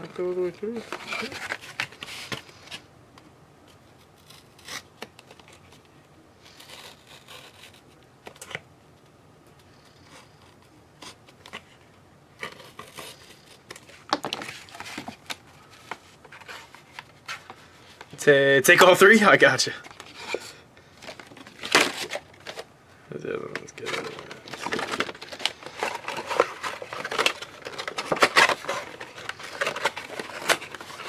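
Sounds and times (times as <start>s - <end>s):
cards and wrappers rustling: 0.0s - 2.9s, 3.6s - 8.6s, 9.6s - 31.0s.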